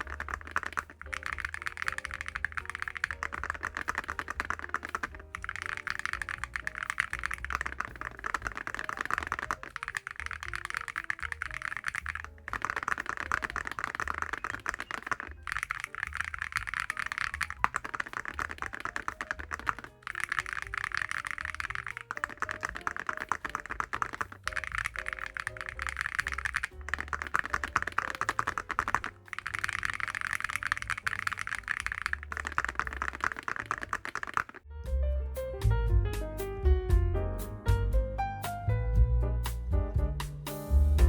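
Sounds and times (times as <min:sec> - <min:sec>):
fast mechanical keyboard typing: 0:00.0 - 0:34.6.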